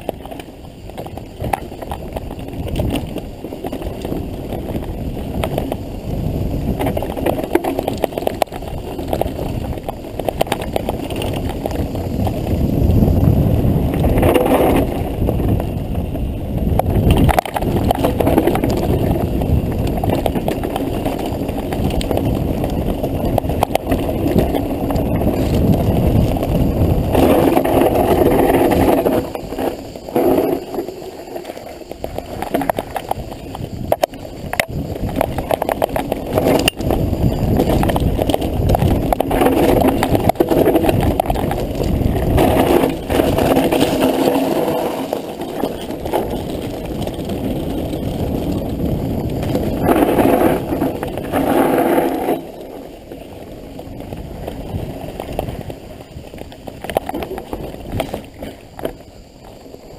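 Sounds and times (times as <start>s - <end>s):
bike tyres rumbling: 0.0s - 59.9s
wind noise: 0.0s - 59.9s.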